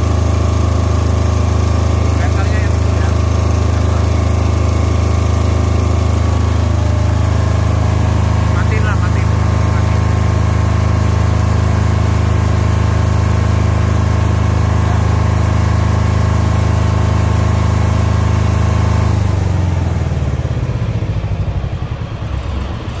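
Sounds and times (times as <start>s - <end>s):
diesel generator running: 0.0s - 23.0s.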